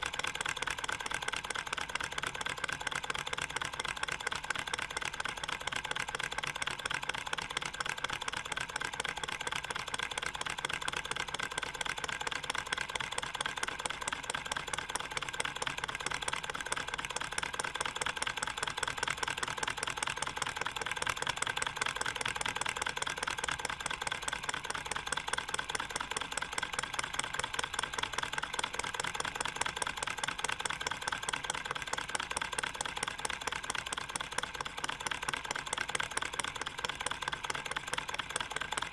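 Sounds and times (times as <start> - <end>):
model engine metallic ticking rattle: 0.0 - 38.9.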